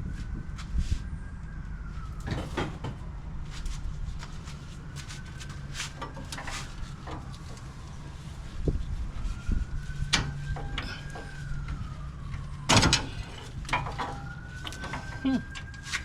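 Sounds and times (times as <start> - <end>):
faint wailing siren: 0.0 - 16.0.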